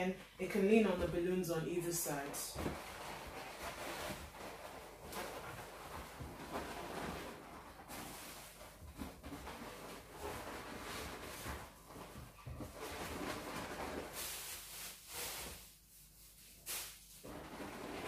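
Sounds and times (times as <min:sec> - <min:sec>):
balloons and plastic bag rustling: 0:00.5 - 0:18.0.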